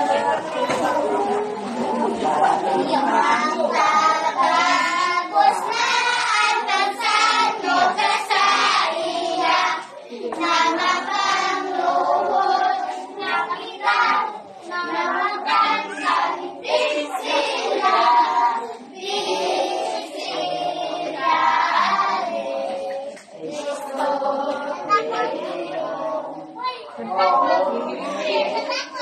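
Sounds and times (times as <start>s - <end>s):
children singing together: 0.0s - 29.0s.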